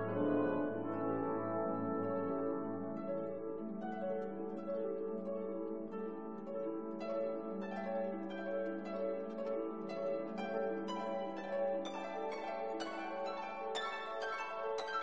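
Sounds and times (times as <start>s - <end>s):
plucked notes over held chords: 0.0s - 15.0s.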